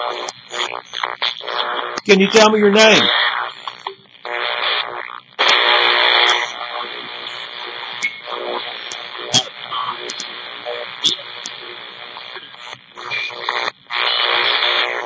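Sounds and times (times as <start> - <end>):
radio static bursts: 0.0 - 15.0
radio tuning clicks: 0.0 - 15.0
snatches of broadcast audio: 0.0 - 15.0.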